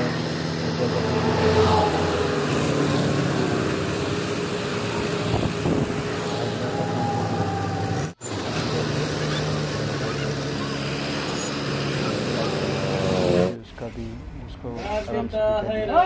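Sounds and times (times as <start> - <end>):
crane engine running: 0.0 - 14.5.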